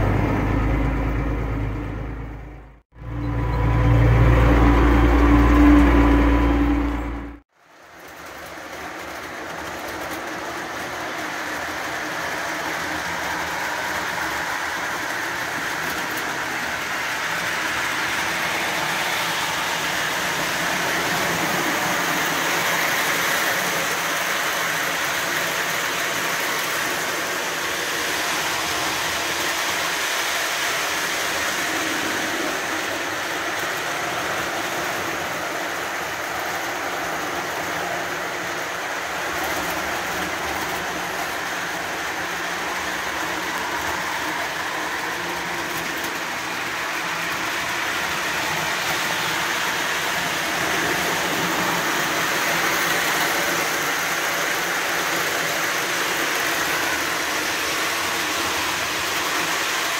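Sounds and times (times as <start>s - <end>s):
wheels rumbling over rails: 0.0s - 59.9s
model train motor whir: 8.0s - 59.9s.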